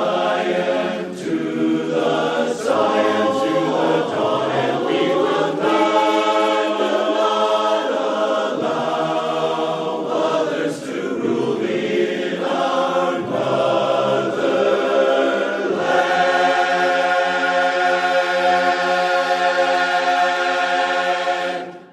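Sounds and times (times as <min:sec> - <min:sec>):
choir singing held chords: 0:00.0 - 0:21.9.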